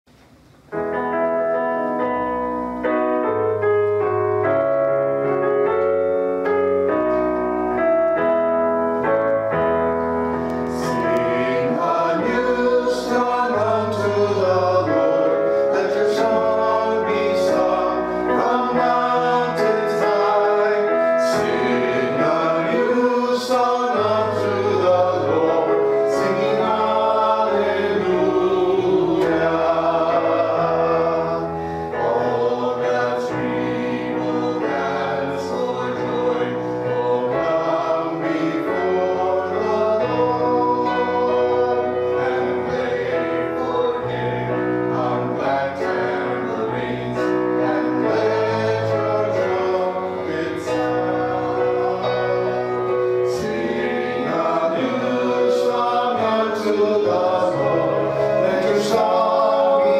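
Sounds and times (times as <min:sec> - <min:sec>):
keyboard playing: 0:00.6 - 0:59.9
choir singing a hymn: 0:01.9 - 0:59.9.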